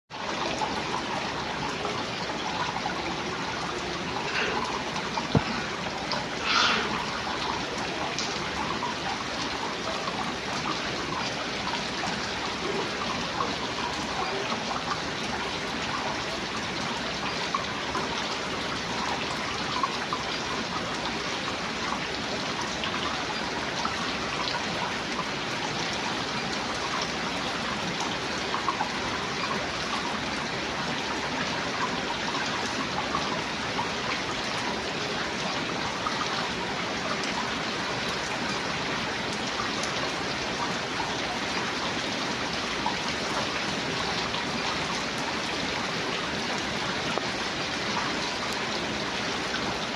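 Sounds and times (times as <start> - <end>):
steady rain falling: 0.1 - 49.9
water dripping: 0.1 - 49.9.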